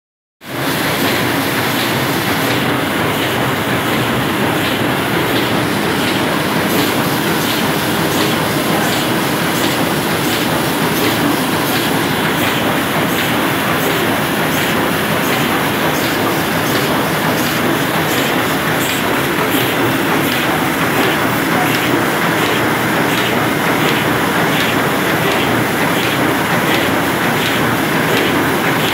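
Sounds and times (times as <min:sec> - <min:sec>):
printing press clattering: 0:00.5 - 0:28.9.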